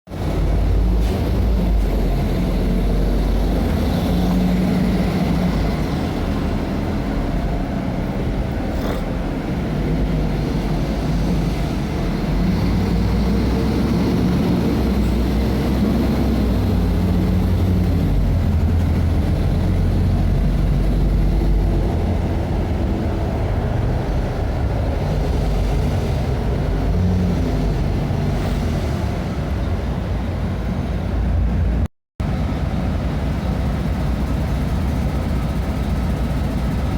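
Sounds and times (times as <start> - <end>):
bus diesel engine running: 0.1 - 36.9.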